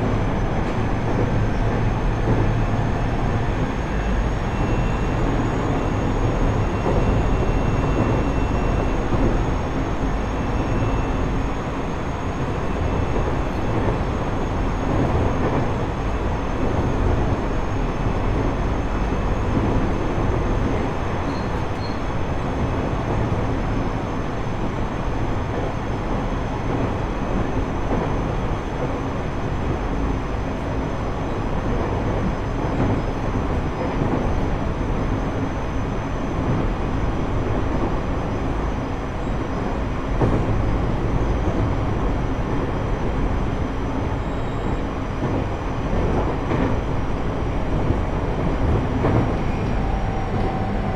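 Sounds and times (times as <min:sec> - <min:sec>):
train rail and wheel rumble: 0:00.0 - 0:50.9.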